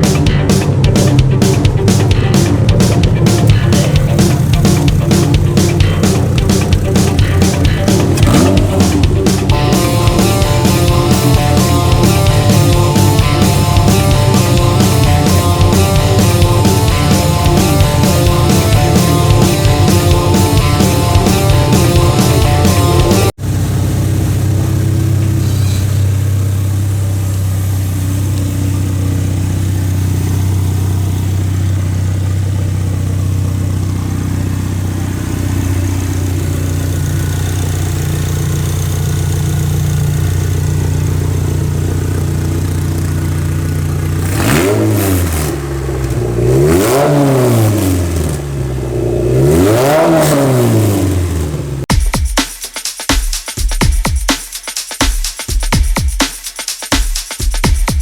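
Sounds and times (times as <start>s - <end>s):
buggy engine idling and revving: 0.0s - 52.0s.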